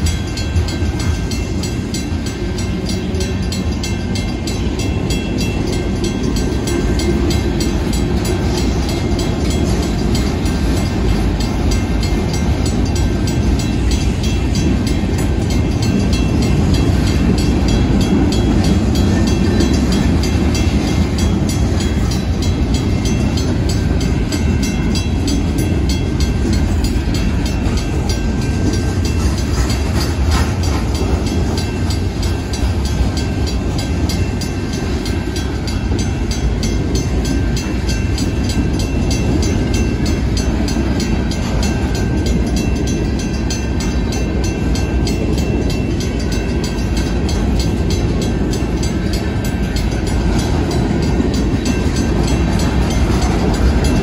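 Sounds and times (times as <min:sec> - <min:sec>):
train rumbling past: 0:00.0 - 0:54.0
wheel clatter on rails: 0:00.0 - 0:54.0.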